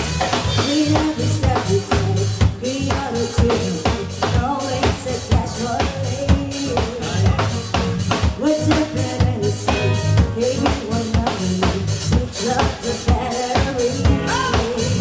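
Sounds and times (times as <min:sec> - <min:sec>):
dance music with drum beat: 0:00.0 - 0:15.0.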